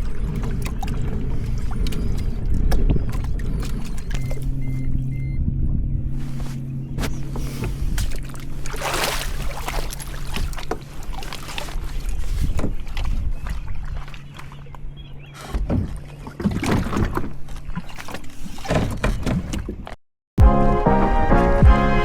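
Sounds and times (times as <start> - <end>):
water splashing against kayak: 0.0 - 20.0.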